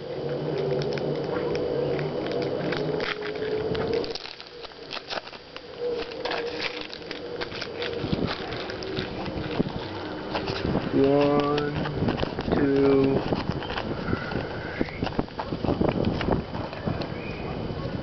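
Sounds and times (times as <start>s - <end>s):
steady hum: 0.0s - 18.0s
foil wrapper crinkling and tearing: 0.5s - 17.2s.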